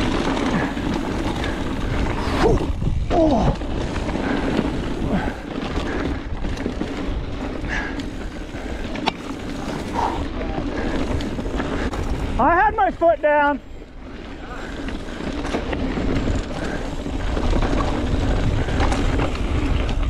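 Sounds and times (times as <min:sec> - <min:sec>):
wind buffeting microphone: 0:00.0 - 0:13.0, 0:13.8 - 0:20.0
tyres rushing on dirt: 0:00.0 - 0:20.0.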